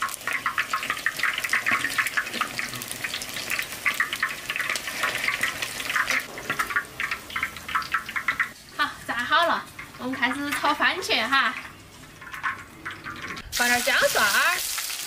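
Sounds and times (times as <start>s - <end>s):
meatballs deep-frying in oil: 0.0s - 15.0s.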